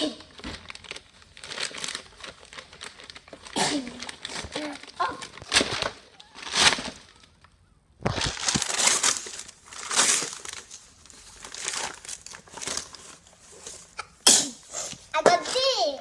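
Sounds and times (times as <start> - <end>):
wrapping paper tearing and rustling: 0.0 - 15.7.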